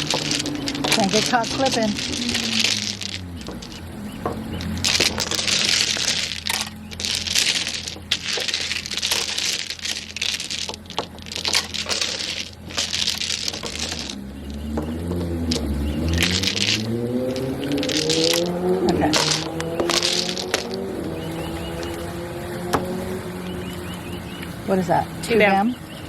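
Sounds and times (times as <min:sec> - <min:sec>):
tiles clattering on a table: 0:00.0 - 0:22.0.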